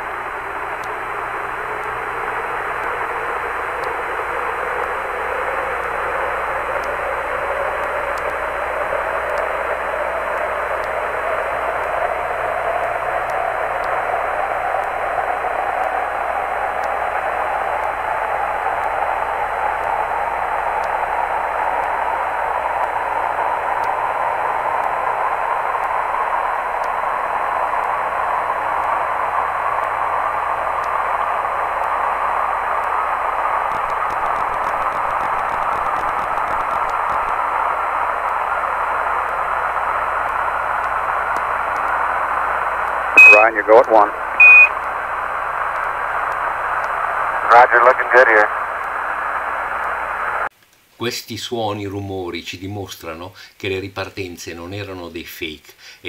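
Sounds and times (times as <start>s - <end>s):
radio hiss: 0.0s - 50.5s, 52.3s - 56.0s.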